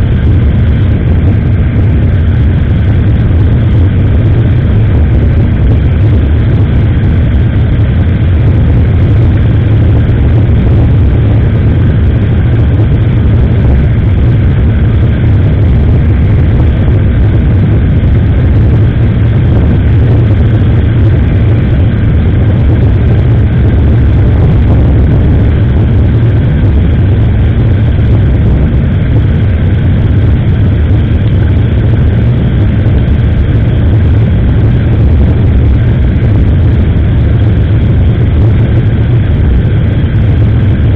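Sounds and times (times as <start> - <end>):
motorcycle engine running: 0.0 - 40.9
road noise: 0.0 - 40.9
wind rush on microphone: 0.0 - 40.9.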